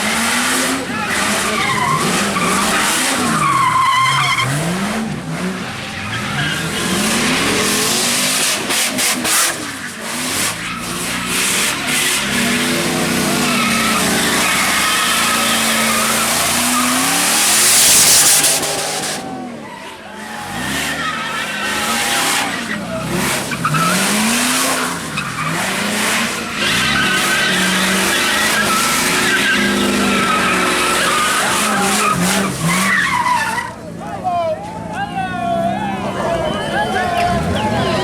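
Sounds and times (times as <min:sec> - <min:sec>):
car engine revving: 0:00.0 - 0:34.0
tyres squealing on wet road: 0:00.0 - 0:38.0.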